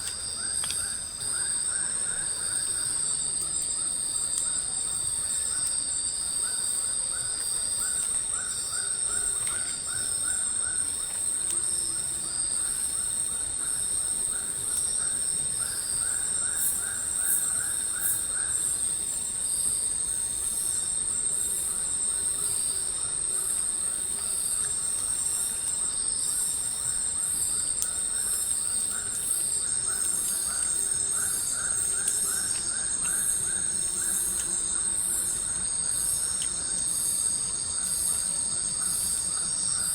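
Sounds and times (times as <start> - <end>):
faint steady insect tones: 0.0 - 39.9
insects high-pitched shrill trill: 0.0 - 39.9.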